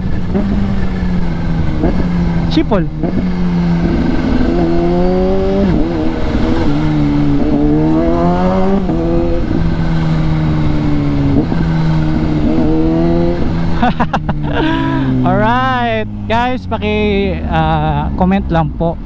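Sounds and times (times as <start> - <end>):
motorcycle engine revving: 0.0 - 18.5.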